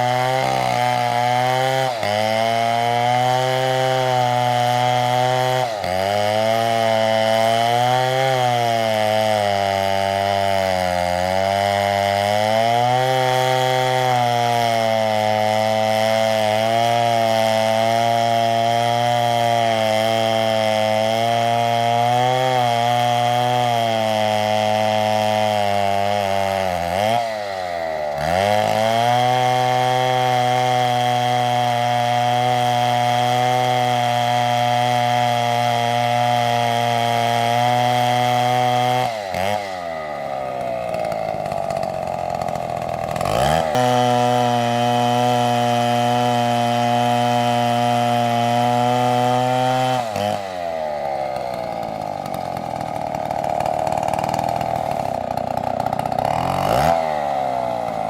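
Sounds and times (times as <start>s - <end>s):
chainsaw running at high revs: 0.0s - 58.0s.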